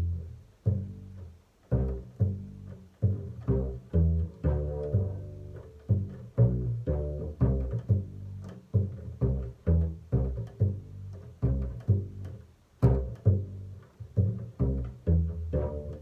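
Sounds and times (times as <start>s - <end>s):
plucked double bass: 0.0s - 16.0s.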